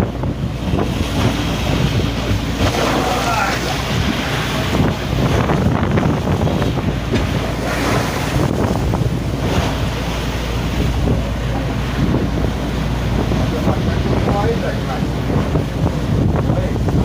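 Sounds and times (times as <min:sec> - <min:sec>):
rough sea breaking: 0:00.0 - 0:17.0
wind battering microphone: 0:00.0 - 0:17.0.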